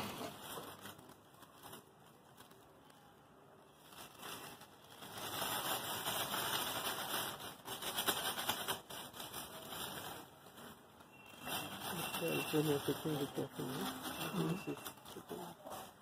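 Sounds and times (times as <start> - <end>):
compost granules pouring into bag: 0.0 - 16.0.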